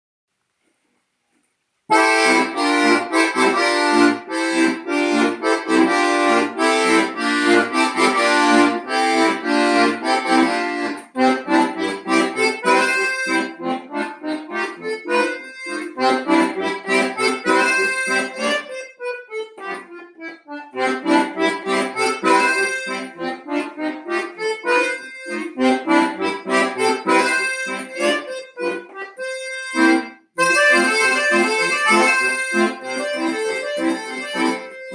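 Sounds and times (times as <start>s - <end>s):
accordion playing: 1.9s - 34.9s.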